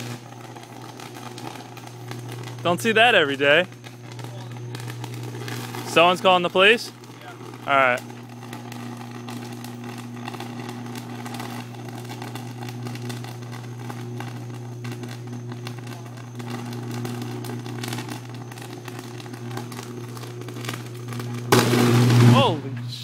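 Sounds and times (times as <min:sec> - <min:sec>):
electrical arc crackling: 0:00.0 - 0:23.0
low electrical buzz: 0:00.0 - 0:23.0.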